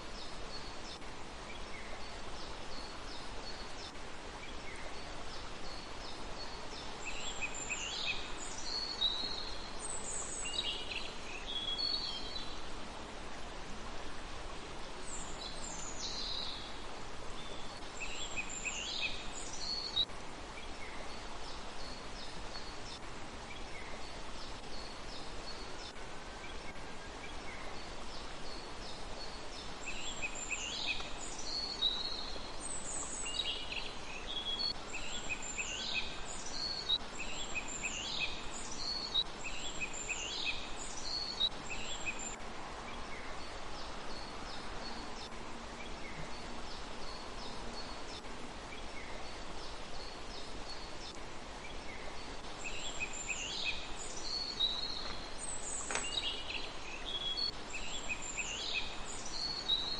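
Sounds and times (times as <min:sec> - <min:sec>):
songbirds chirping: 0:00.0 - 0:59.9
steady background hiss: 0:00.0 - 0:59.9.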